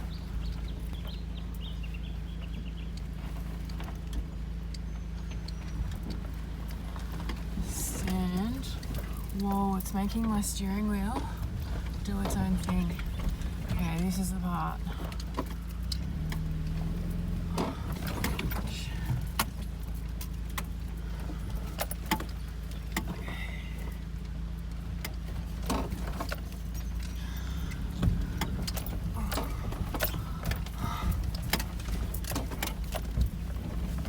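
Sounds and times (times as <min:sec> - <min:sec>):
car engine at low speed: 0:00.0 - 0:34.0
knocks and rattles in car: 0:00.0 - 0:34.0.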